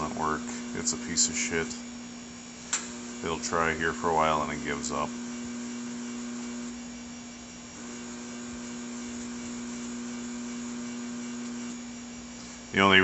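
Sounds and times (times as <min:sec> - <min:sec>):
refrigerant machine humming: 0:00.0 - 0:13.0.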